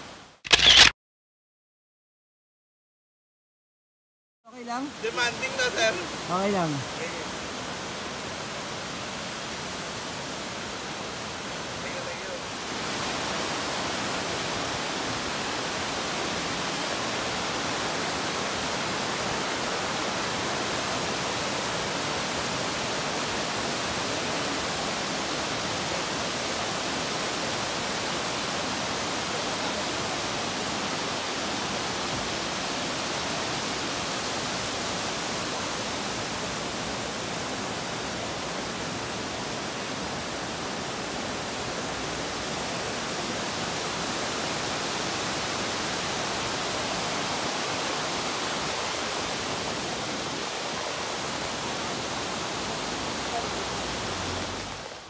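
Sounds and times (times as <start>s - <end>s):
water rushing over rocks: 4.8s - 55.0s.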